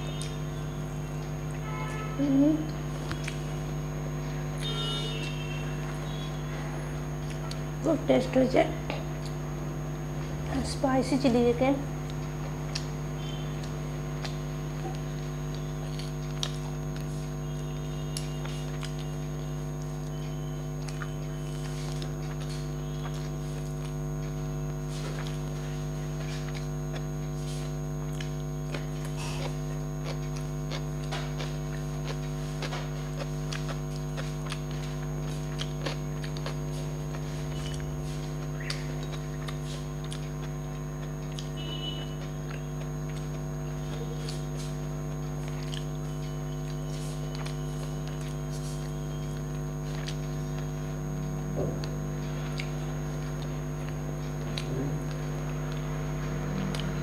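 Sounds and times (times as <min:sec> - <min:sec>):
person chewing and eating: 0:00.0 - 0:07.8, 0:08.8 - 0:10.5, 0:11.9 - 0:57.0
electrical mains hum: 0:00.0 - 0:57.0.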